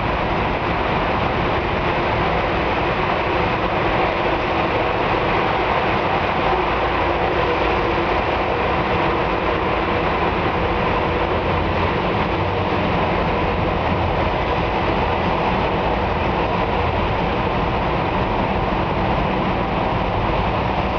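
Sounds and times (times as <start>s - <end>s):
car road and engine noise: 0.0s - 20.9s.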